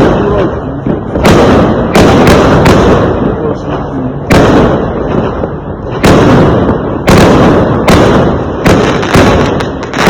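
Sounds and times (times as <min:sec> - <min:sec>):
fireworks exploding: 0:00.0 - 0:10.0.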